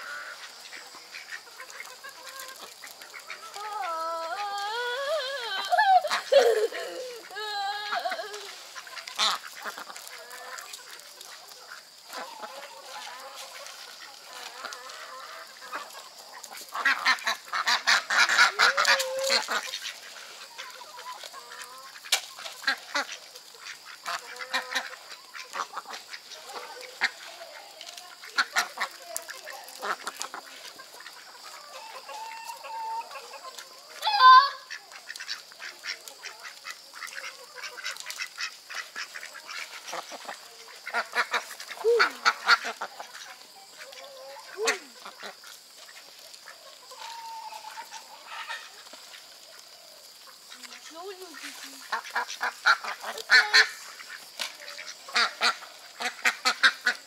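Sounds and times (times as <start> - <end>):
ducks quacking: 0.0 - 4.6, 5.6 - 57.0.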